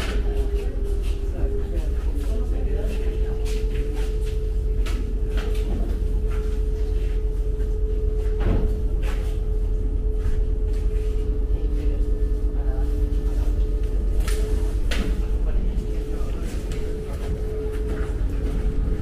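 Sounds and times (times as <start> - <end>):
ferry engine humming: 0.0 - 19.0.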